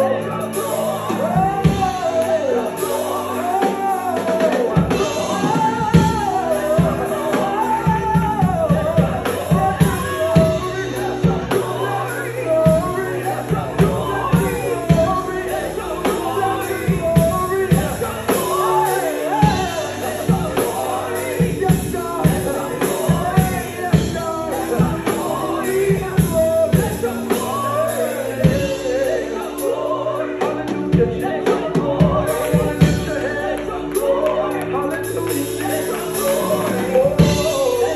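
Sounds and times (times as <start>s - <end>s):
band playing: 0.0s - 37.9s
person singing gospel: 0.0s - 37.9s
steady drum beat: 0.0s - 37.9s.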